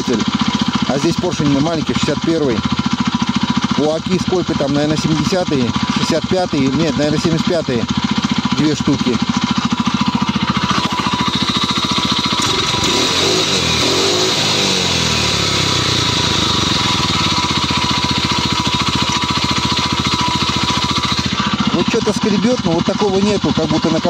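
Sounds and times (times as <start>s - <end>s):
small engine running and revving: 0.0s - 24.0s.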